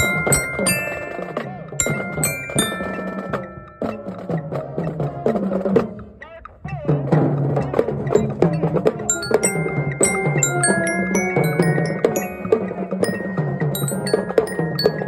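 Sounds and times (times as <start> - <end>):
mallet keyboard struck with sticks: 0.0 - 15.0
marching band playing: 0.0 - 15.0.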